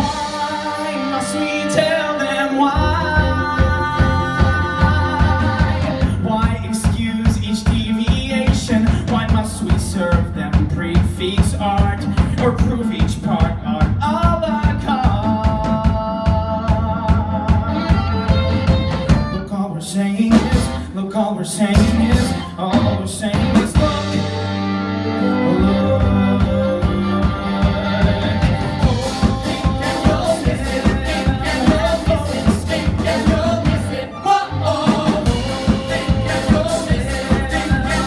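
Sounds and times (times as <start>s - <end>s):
man singing: 0.0s - 18.5s, 19.3s - 38.0s
piano: 0.0s - 19.4s, 21.7s - 38.0s
drum kit: 0.0s - 19.5s, 20.2s - 20.9s, 21.7s - 38.0s.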